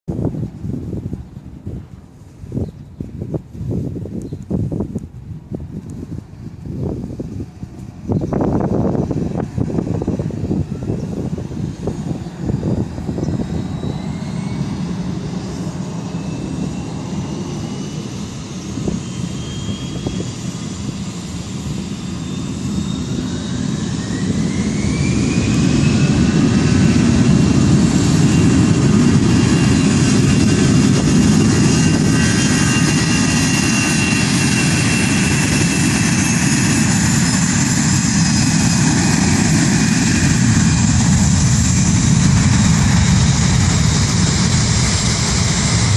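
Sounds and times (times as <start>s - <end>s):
rising engine whine: 3.2s - 45.9s
jet engines spooling up: 5.8s - 45.9s.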